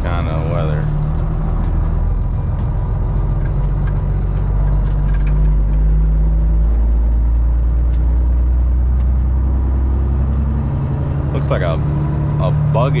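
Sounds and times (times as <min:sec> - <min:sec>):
truck diesel engine droning: 0:00.0 - 0:13.0.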